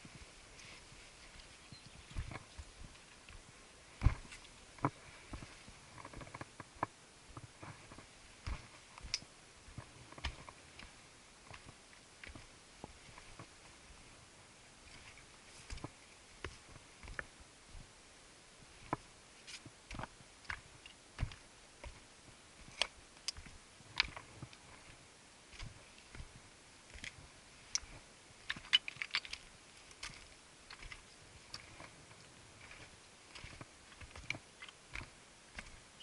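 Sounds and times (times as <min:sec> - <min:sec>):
boots stepping on loose stones: 0:00.0 - 0:13.8, 0:14.9 - 0:17.3, 0:18.8 - 0:35.9.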